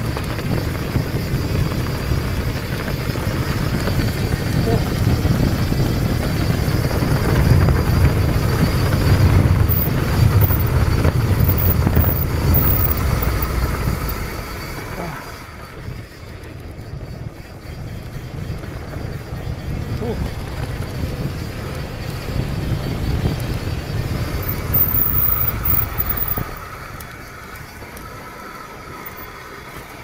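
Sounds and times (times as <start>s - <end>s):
wind buffeting microphone: 0.0s - 30.0s
tyres on gravel: 3.0s - 30.0s.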